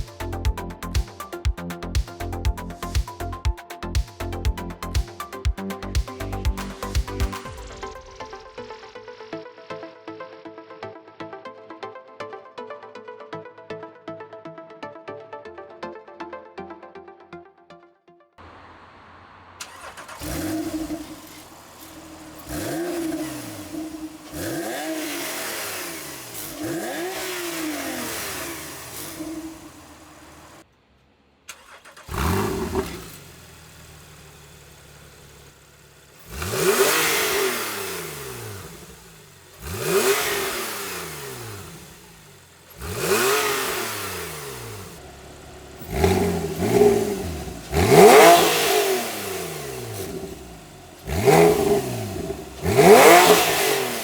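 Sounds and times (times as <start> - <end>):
car engine revving: 0.0 - 9.4, 18.4 - 54.0.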